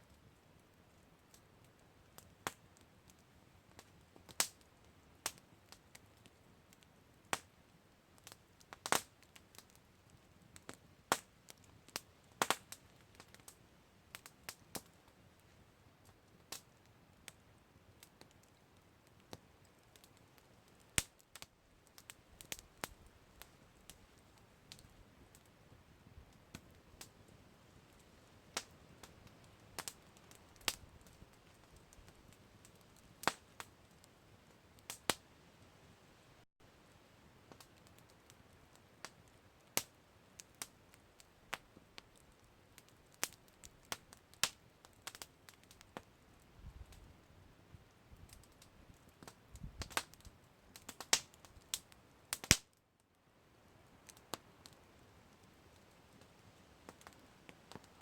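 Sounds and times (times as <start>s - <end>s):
campfire crackling: 0.0s - 58.0s
faint steady hiss: 0.0s - 58.0s.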